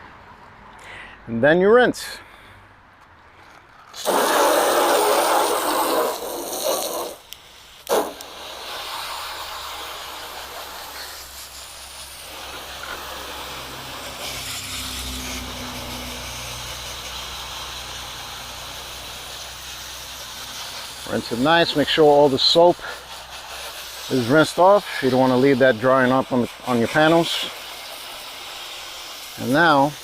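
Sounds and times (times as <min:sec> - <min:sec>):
garden hose spraying water: 0:03.9 - 0:30.0.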